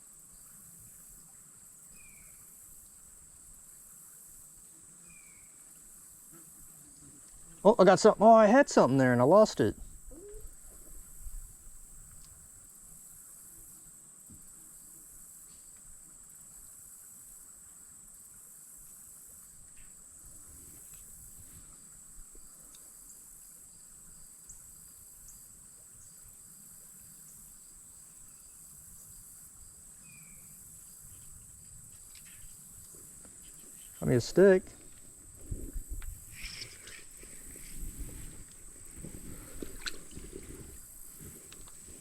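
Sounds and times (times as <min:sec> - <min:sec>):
insects chorus: 0:00.0 - 0:42.0.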